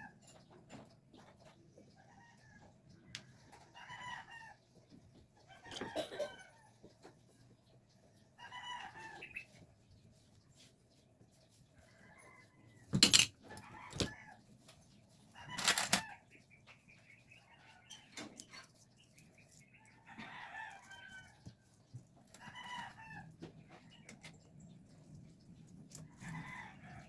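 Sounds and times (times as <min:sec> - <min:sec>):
chickens clucking: 0:00.0 - 0:10.5, 0:13.4 - 0:27.0.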